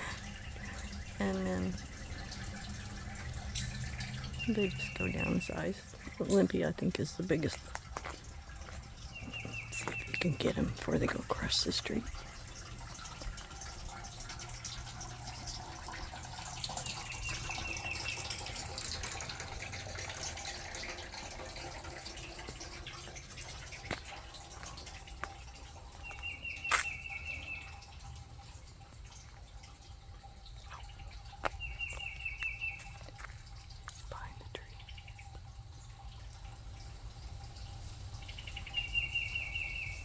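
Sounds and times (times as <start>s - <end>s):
outdoor background noise: 0.0s - 40.0s.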